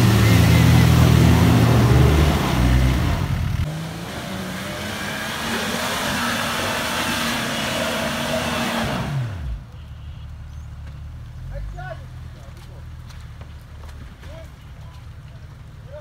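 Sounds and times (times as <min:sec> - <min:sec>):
off-road engine drone: 0:00.0 - 0:16.0.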